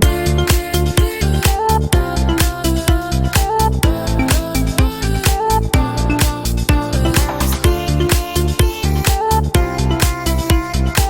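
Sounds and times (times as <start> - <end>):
upbeat electronic music: 0.0 - 11.0.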